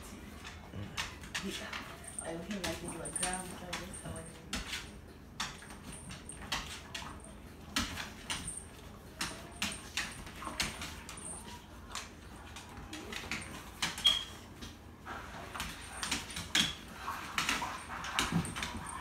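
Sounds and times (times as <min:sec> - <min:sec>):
dog claws clicking on hardwood floor: 0:00.3 - 0:14.8, 0:15.5 - 0:19.0.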